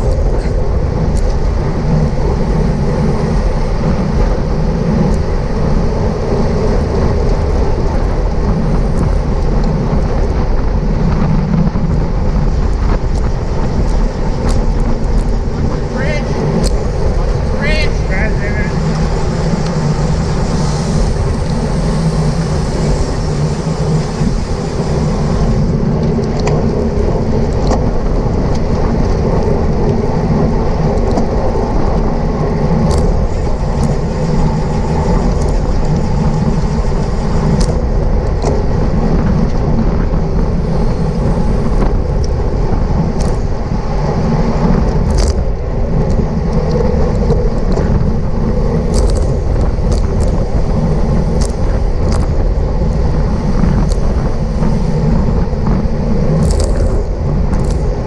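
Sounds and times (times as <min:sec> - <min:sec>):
road and tyre noise: 0:00.0 - 0:58.0
wind rumble on microphone: 0:00.0 - 0:58.0.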